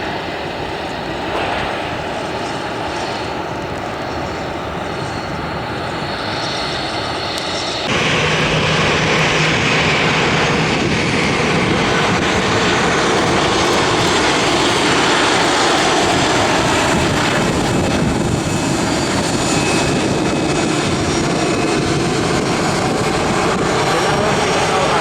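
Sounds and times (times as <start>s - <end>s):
airliner engines running: 0.0s - 25.0s.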